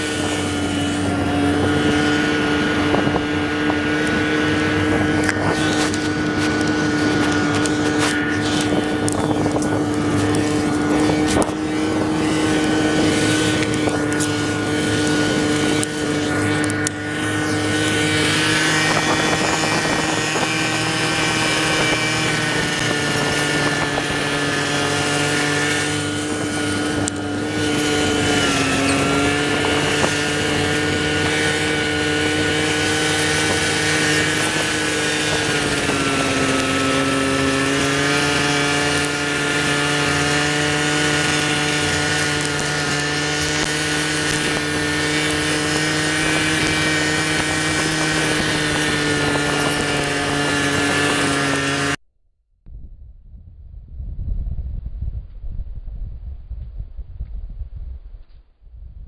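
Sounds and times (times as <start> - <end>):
engine running: 0.0 - 52.0.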